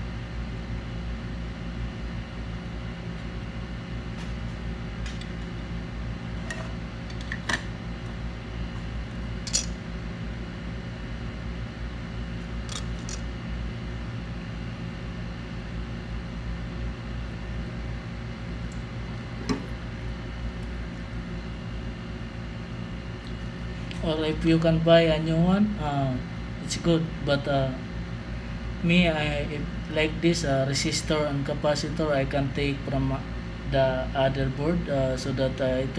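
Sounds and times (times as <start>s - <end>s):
small fan humming: 0.0s - 35.9s.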